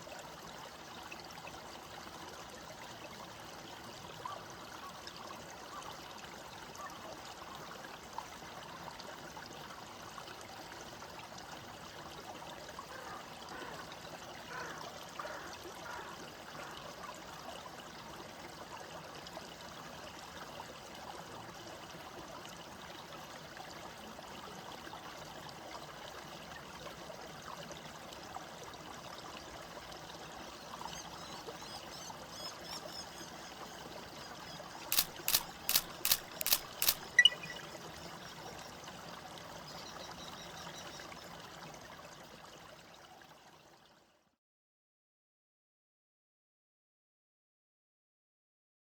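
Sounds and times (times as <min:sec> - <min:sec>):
small stream trickling: 0:00.0 - 0:44.4.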